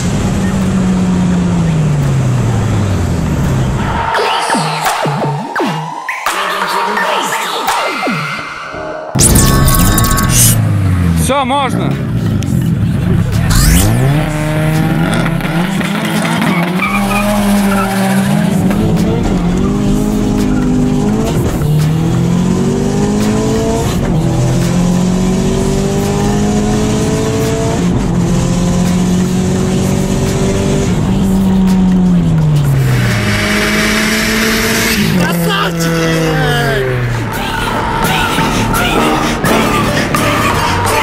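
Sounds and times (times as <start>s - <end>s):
car engine accelerating hard: 0.0s - 4.1s, 9.2s - 41.0s.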